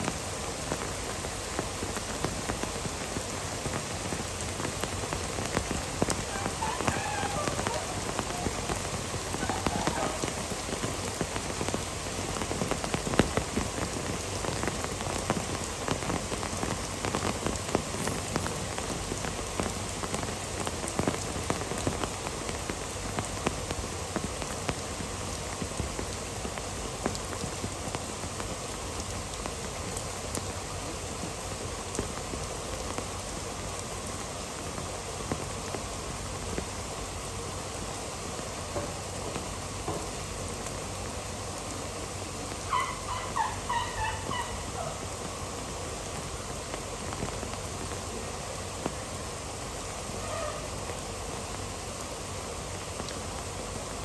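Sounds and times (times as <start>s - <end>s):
heavy rain falling: 0.0s - 54.0s
raindrops ticking close by: 0.0s - 54.0s.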